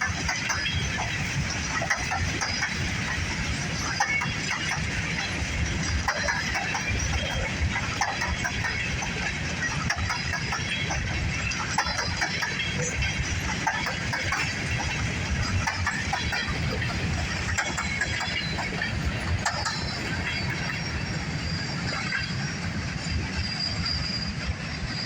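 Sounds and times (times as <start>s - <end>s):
freight train rumbling past: 0.0s - 25.0s
train wheels clicking: 0.0s - 25.0s.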